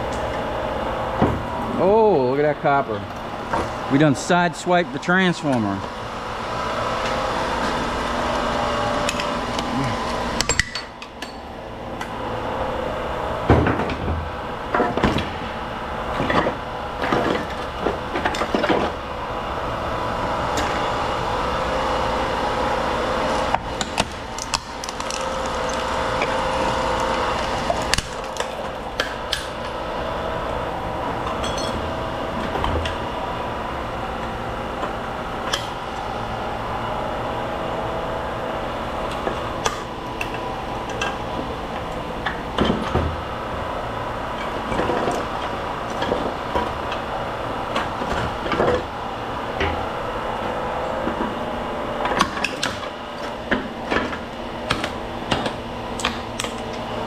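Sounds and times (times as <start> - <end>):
steady mechanical drone: 0.0 - 57.0.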